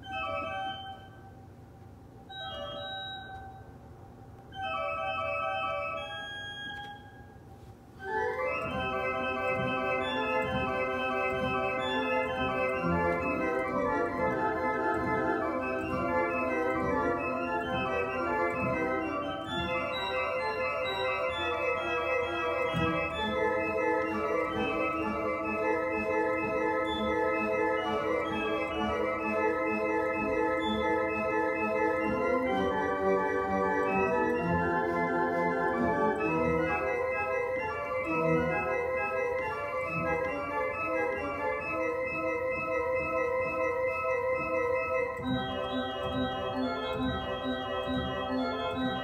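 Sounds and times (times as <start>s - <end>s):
church organ playing: 0.0s - 1.5s, 2.2s - 3.8s, 4.5s - 49.0s.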